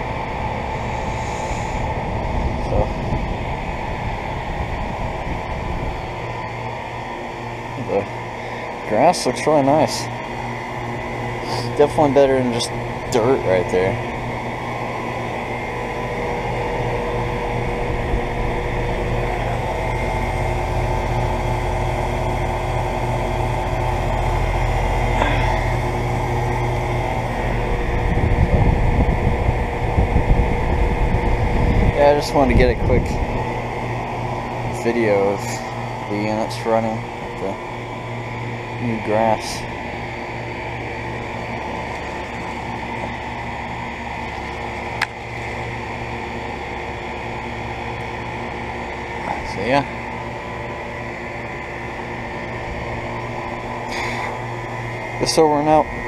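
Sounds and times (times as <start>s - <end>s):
air conditioner compressor hum: 0.0s - 56.0s
condenser fans rushing: 0.0s - 56.0s.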